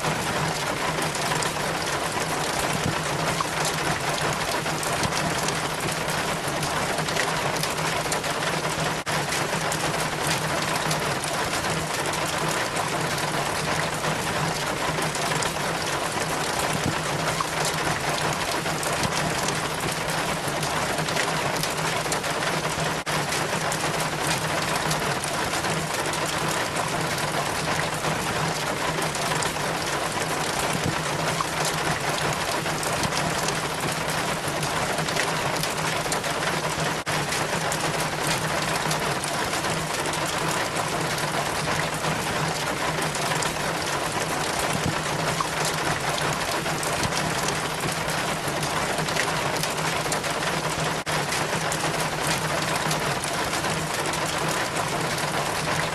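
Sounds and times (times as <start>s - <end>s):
rain water trickling down chain: 0.0s - 55.9s.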